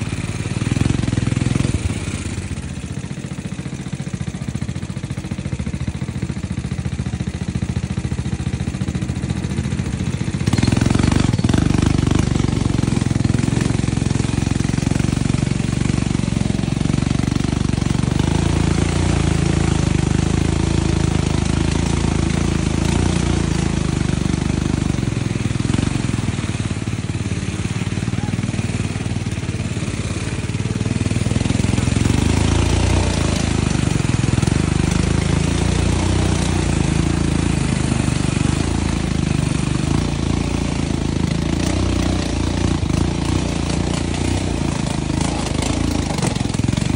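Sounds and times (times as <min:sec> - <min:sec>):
quad bike engine: 0:00.0 - 0:46.9.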